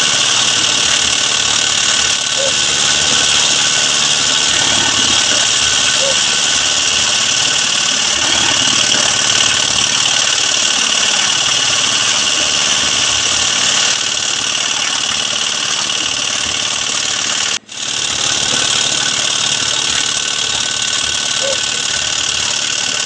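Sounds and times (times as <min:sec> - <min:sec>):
small engine rattling: 0:00.0 - 0:23.0.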